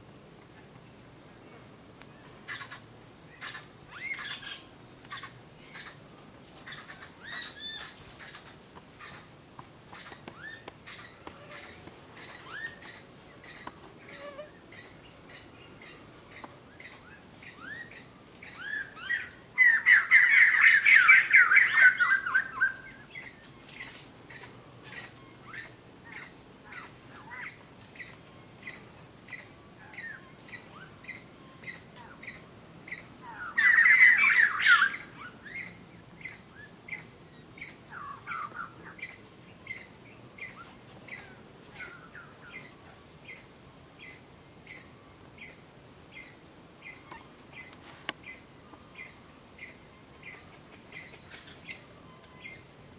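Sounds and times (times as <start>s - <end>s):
birds squawking chatter: 6.6s - 52.9s.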